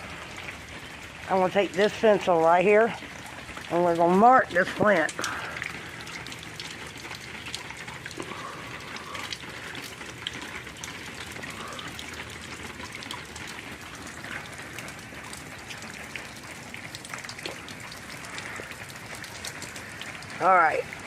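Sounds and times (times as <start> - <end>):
raindrops ticking: 0.0 - 21.0
steady rain hiss: 0.0 - 21.0.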